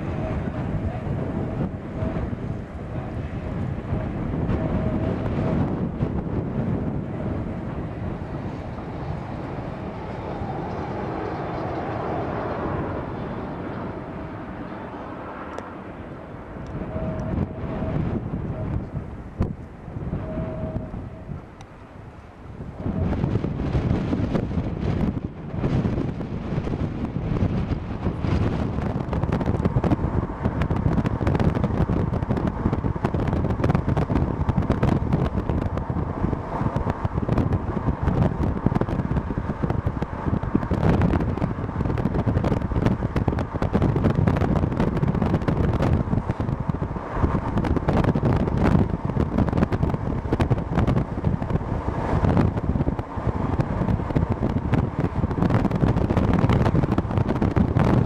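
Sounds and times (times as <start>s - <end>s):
freight train rolling past: 0.0s - 58.0s
wind buffeting microphone: 0.0s - 58.0s.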